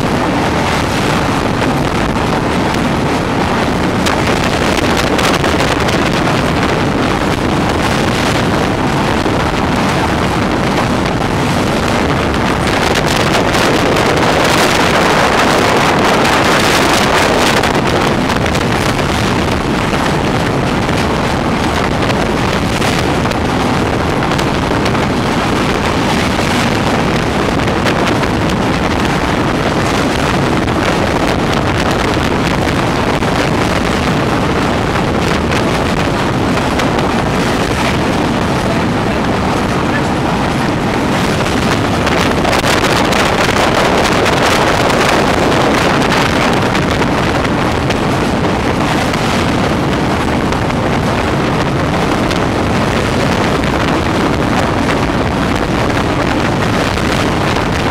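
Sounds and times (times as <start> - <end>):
wind on microphone: 0.0 - 57.9.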